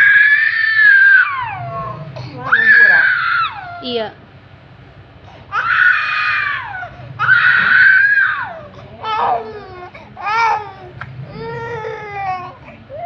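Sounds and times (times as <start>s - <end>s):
small child crying: 0.0s - 4.0s, 5.5s - 13.0s.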